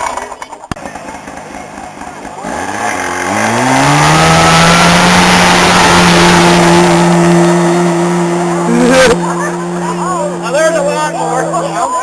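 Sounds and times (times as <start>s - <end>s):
lawn tractor engine revving: 0.0s - 12.0s.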